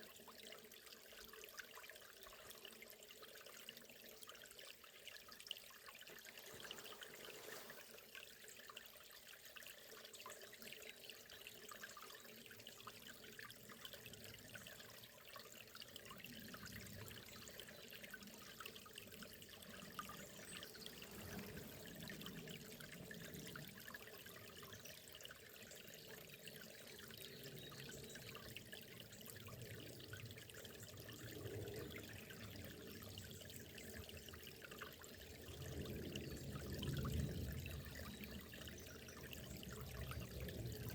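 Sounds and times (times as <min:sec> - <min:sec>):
small river trickling: 0:00.0 - 0:40.9
water gurgling: 0:00.0 - 0:40.9.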